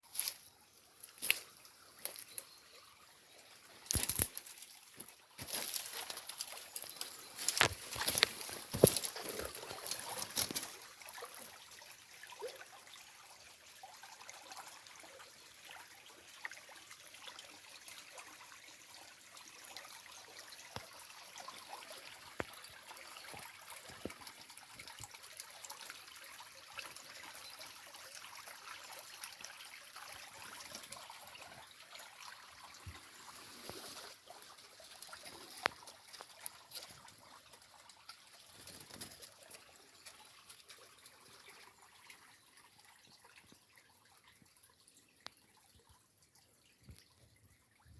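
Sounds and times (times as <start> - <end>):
wastewater trickling: 0.0 - 47.8.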